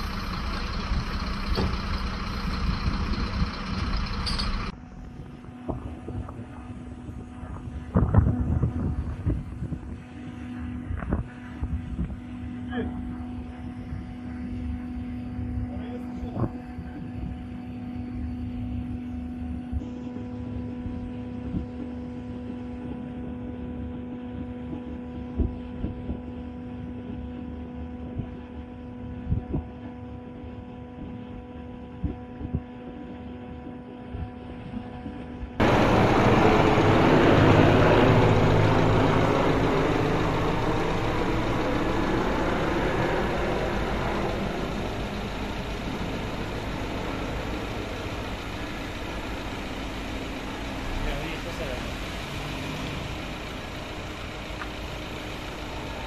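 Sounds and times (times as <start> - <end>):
helicopter rotor and engine: 0.0 - 56.0
low hum: 0.0 - 56.0.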